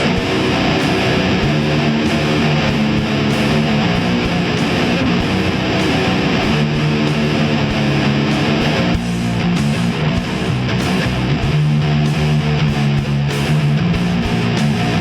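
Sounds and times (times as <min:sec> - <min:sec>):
distorted electric guitars: 0:00.0 - 0:15.0
drums: 0:00.0 - 0:15.0.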